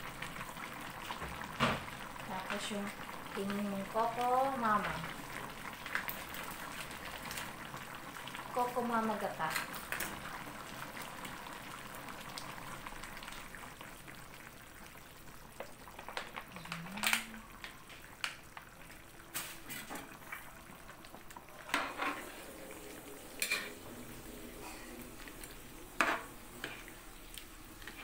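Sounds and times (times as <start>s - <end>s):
curry bubbling in a wok: 0.0s - 28.0s.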